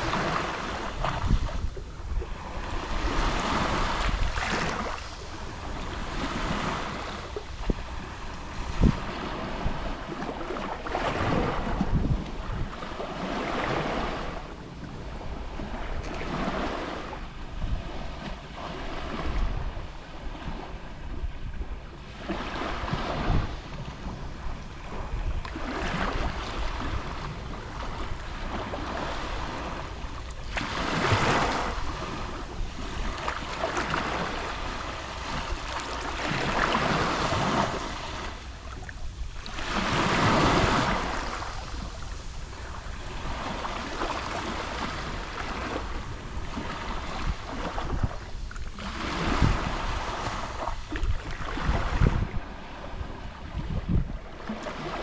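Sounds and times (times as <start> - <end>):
waves lapping on shore: 0.0 - 55.0
wind rumble on microphone: 0.0 - 55.0.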